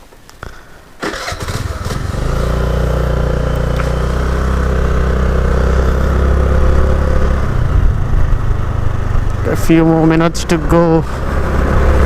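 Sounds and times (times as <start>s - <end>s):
vehicle engine running: 1.5s - 12.0s.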